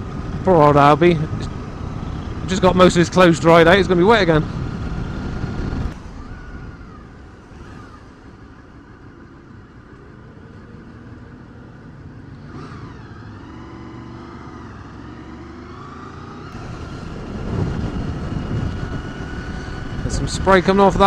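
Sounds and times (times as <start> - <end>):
motorcycle engine: 0.0 - 21.0
road and wind noise: 0.0 - 21.0.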